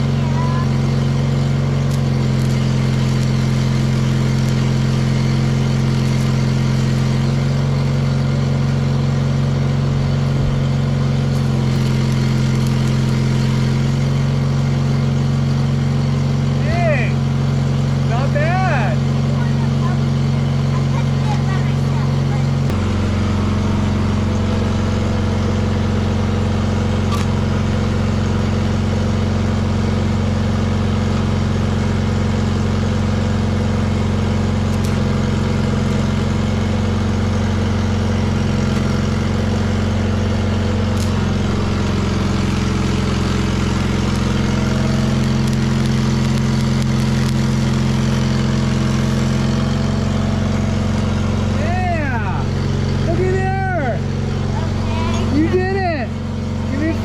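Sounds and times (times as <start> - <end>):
generator welder engine running: 0.0 - 57.0.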